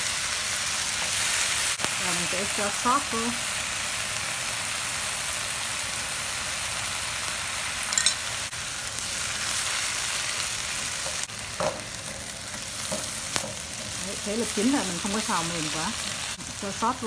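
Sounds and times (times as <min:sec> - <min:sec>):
greens sizzling in hot oil: 0:00.0 - 0:17.0.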